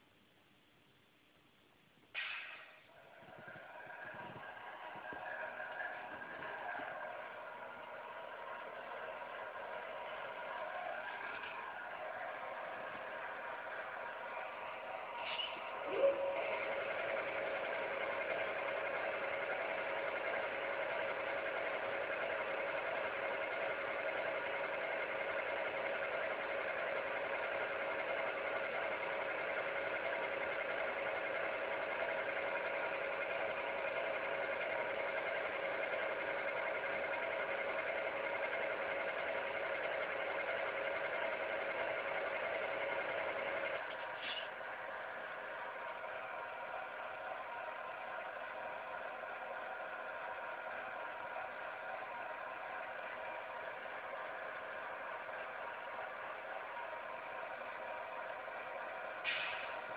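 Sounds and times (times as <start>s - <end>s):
diesel engine idle hum from speaker: 2.9s - 59.9s.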